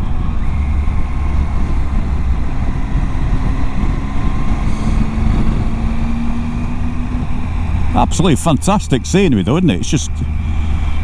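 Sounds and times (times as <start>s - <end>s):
wind rumble on microphone: 0.0s - 9.1s, 10.1s - 11.0s
motorcycle engine running: 0.0s - 11.0s.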